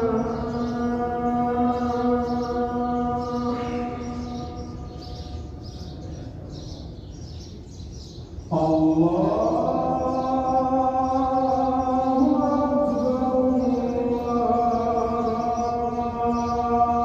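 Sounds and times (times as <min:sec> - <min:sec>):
man chanting: 0:00.0 - 0:05.6, 0:08.5 - 0:17.0.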